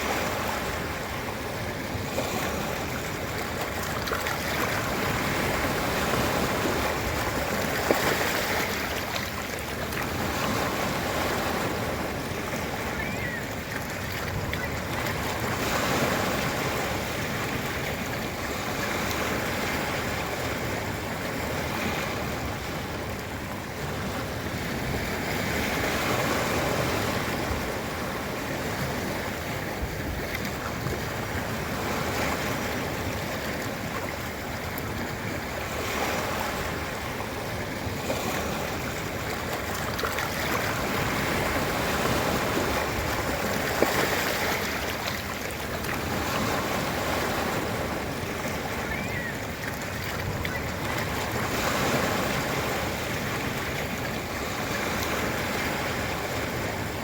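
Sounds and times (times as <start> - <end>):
ocean surf on a beach: 0.0 - 57.0.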